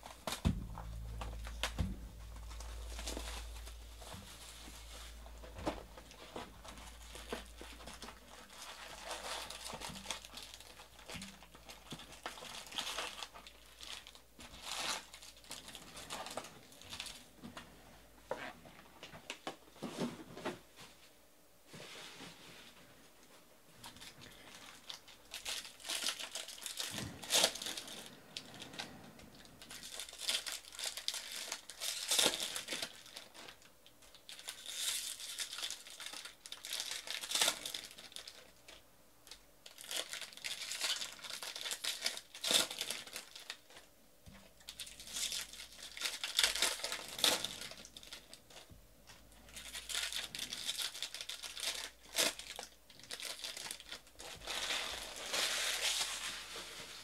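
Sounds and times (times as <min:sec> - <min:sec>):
foil wrappers crinkling and tearing: 0:00.0 - 0:17.4, 0:23.8 - 0:57.0.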